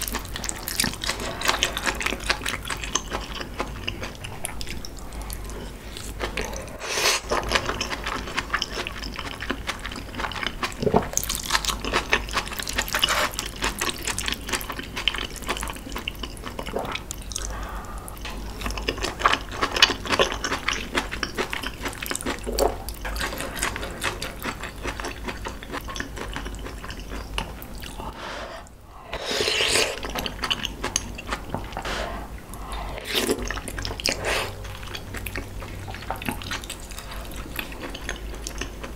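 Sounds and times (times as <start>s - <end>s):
wet chewing and mouth sounds: 0.0s - 38.9s.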